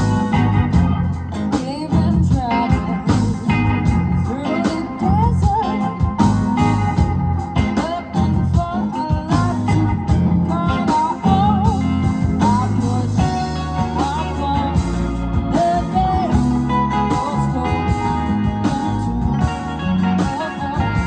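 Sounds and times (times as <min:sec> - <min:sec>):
bass guitar: 0:00.0 - 0:21.0
drums: 0:00.0 - 0:21.0
electric guitars: 0:00.0 - 0:21.0
keyboard: 0:00.0 - 0:21.0.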